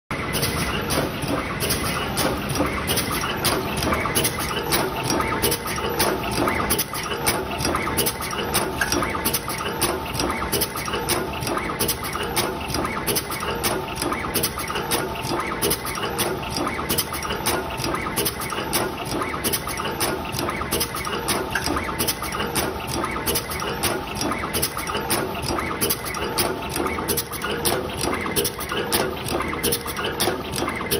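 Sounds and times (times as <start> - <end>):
machine clicking and tapping: 0.2 - 30.9.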